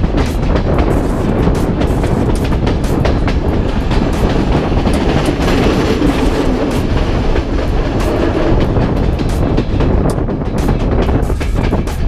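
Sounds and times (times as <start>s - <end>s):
train rumble: 0.0s - 12.0s
wheels clicking over rail joints: 0.0s - 12.0s.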